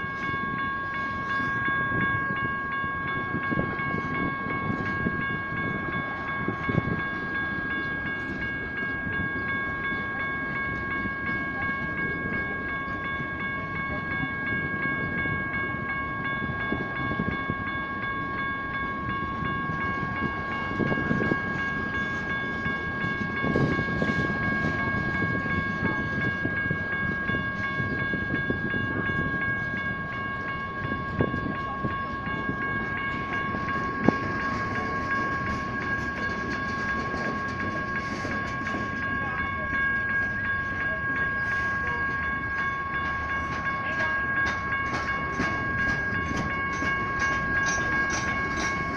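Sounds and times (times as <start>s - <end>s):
crossing signal bells ringing: 0.0s - 48.9s
freight cars rolling on rails: 0.0s - 48.9s.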